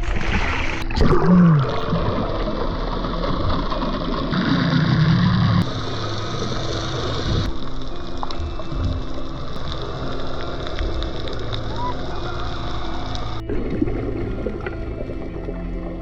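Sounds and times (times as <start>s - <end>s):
boat engine running: 1.7s - 16.0s
rushing noise: 1.8s - 14.6s.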